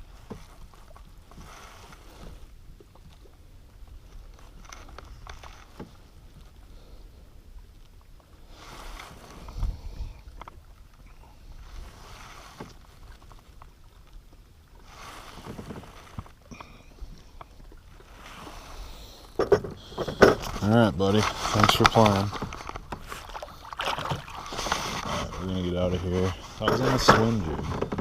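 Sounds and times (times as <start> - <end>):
water splashing around kayak: 0.0 - 28.0.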